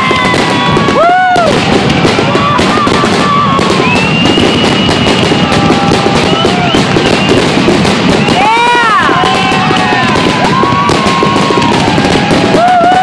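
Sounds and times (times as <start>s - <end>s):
fireworks bursts and crackling: 0.0s - 13.0s.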